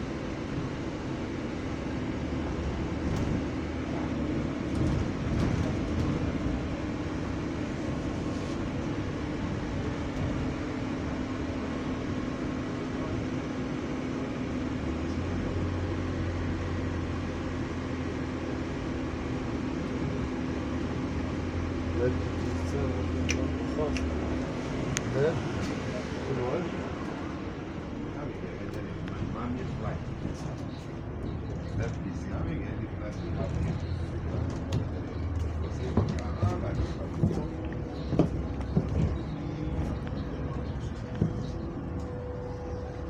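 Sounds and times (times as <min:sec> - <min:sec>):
bus engine drone: 0:00.0 - 0:43.0.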